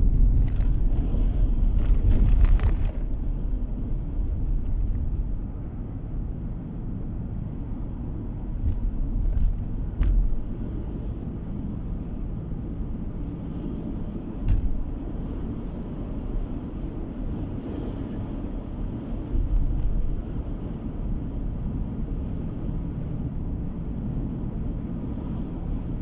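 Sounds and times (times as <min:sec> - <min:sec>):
car tyres and engine rumble: 0:00.0 - 0:26.0.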